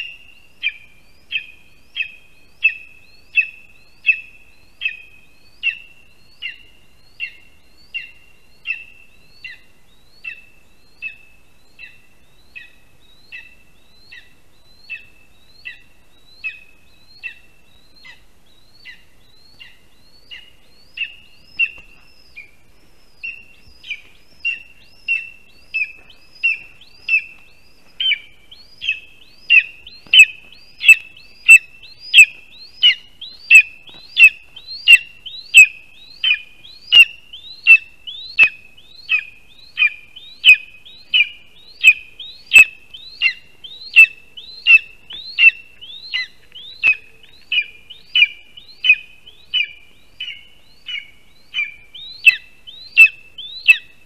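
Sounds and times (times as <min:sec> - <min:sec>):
eagle calling: 0:00.0 - 0:54.0.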